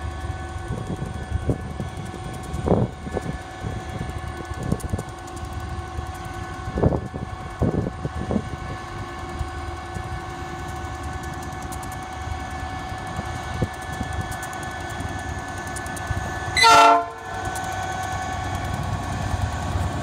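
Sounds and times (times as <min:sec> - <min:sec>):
diesel locomotive engine whine: 0:00.0 - 0:20.0.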